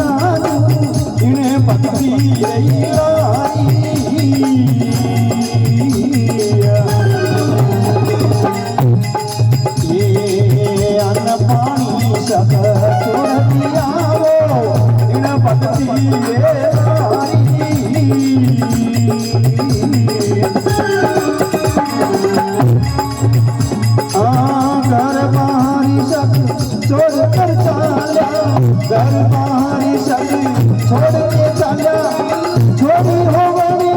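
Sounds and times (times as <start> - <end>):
steady percussion rhythm: 0.0 - 33.9.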